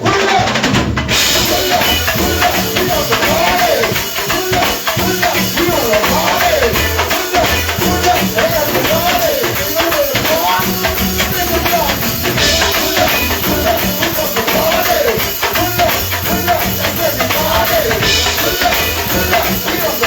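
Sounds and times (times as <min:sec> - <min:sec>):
live band music: 0:00.0 - 0:20.0
jingly hand percussion: 0:01.1 - 0:20.0
pulsing bass line: 0:01.1 - 0:20.0.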